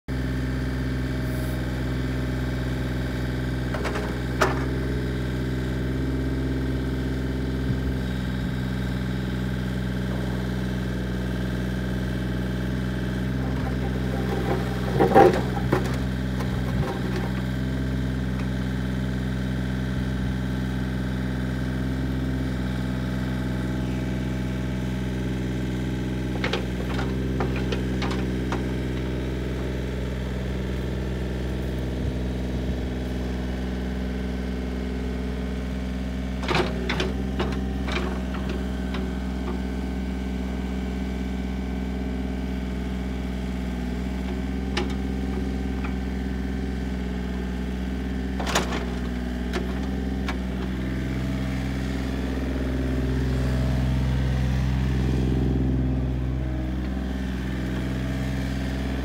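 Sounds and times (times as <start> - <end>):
diesel engine running: 0.1 - 59.0.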